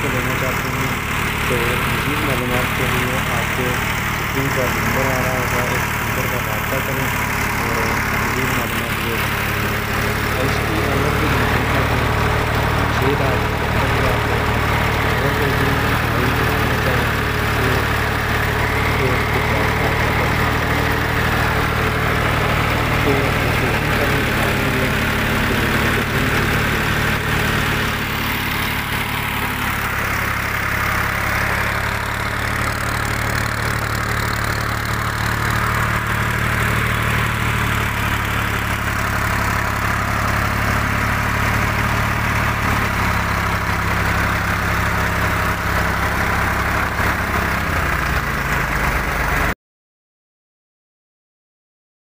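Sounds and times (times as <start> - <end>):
tractor diesel engine idling: 0.0 - 49.5.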